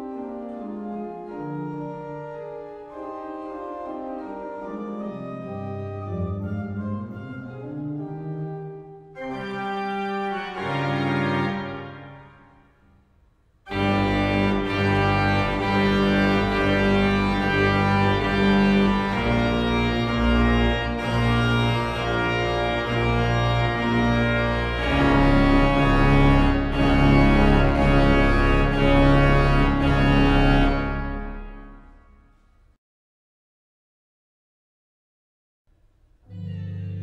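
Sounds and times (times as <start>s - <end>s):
pipe organ chords: 0.0s - 12.8s, 13.7s - 32.4s, 36.3s - 37.0s.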